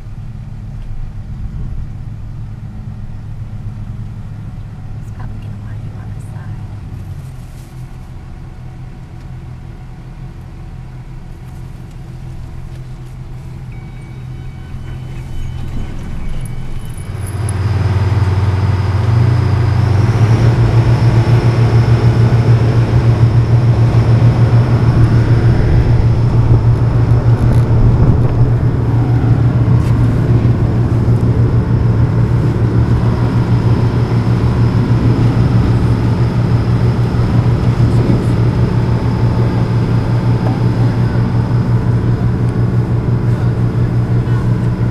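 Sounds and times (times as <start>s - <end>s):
ferry engine droning: 0.0s - 44.9s.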